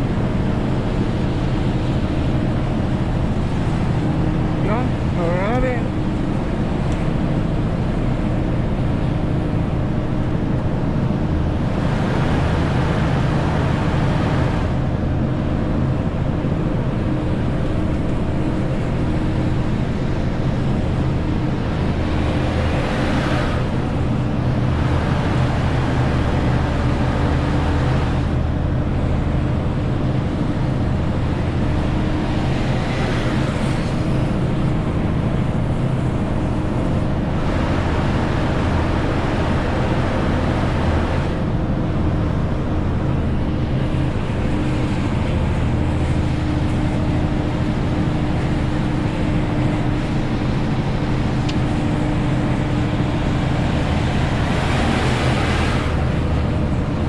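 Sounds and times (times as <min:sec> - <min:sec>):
road and tyre noise: 0:00.0 - 0:57.0
truck diesel engine running: 0:00.0 - 0:57.0.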